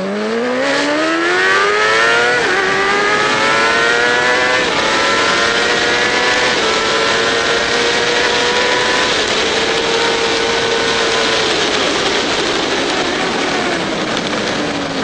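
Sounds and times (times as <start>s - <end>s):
heavy wind rush: 0.0s - 15.0s
motorcycle engine upshifting: 0.0s - 15.0s.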